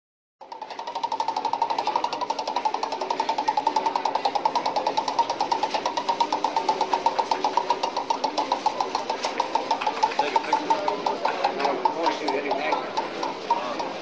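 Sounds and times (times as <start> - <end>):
roulette ball clicking: 0.4 - 14.0
people's voices: 1.0 - 14.0.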